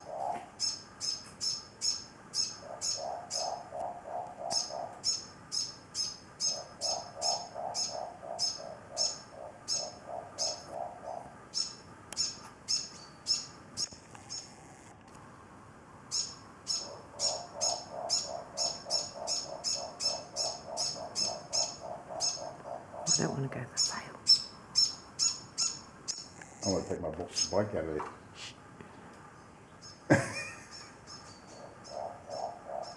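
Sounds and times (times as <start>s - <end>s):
owls calling with pulsed calls: 0.0s - 14.5s, 16.1s - 26.4s, 30.7s - 32.9s.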